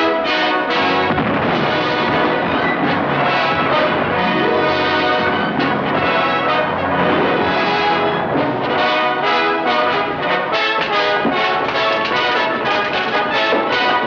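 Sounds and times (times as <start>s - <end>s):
orchestral music led by brass: 0.0s - 14.0s.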